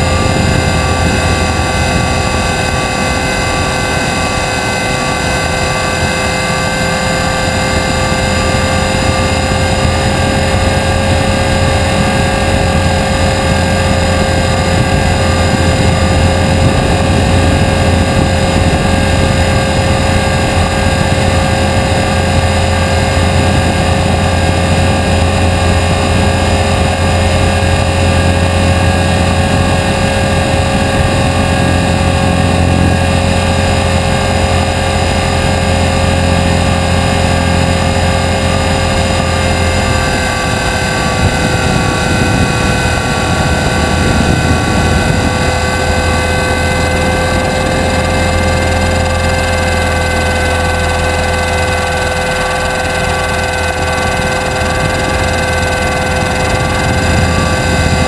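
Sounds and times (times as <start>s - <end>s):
rc helicopter whine: 0.0s - 58.0s.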